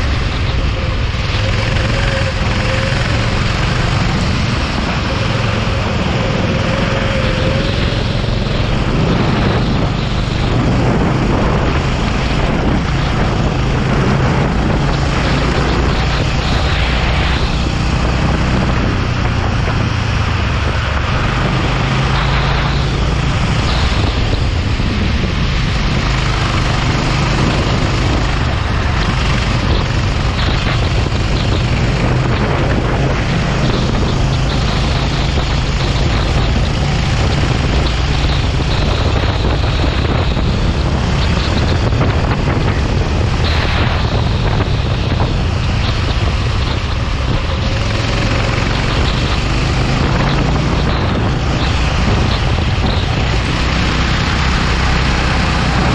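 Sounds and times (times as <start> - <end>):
go-kart engine running hard: 0.0 - 55.9
wind noise on microphone: 0.0 - 55.9.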